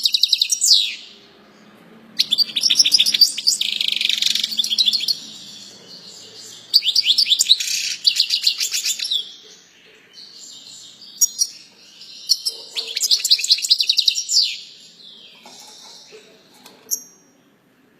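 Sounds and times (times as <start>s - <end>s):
songbird trilling: 0.0s - 1.2s, 2.2s - 17.4s.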